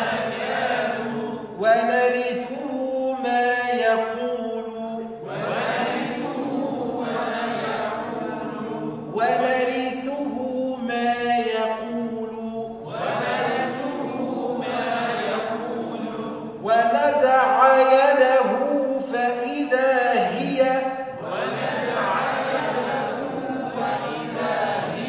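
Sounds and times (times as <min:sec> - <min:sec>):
person chanting recitation: 0:00.0 - 0:25.0.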